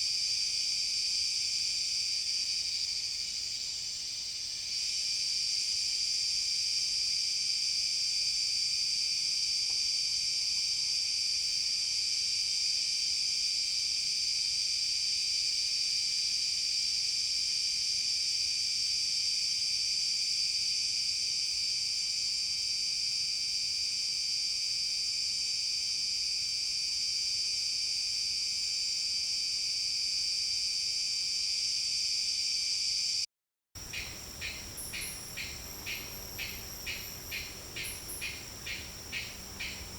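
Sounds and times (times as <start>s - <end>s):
insect chorus drone: 0.0s - 33.2s, 33.8s - 39.9s
rapidly pulsing insect call: 0.1s - 33.2s, 33.8s - 39.9s.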